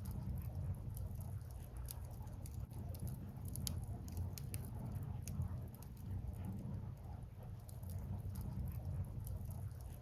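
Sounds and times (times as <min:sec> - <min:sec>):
firewood crackling: 0:00.0 - 0:10.0
low steady fire rumble: 0:00.0 - 0:10.0.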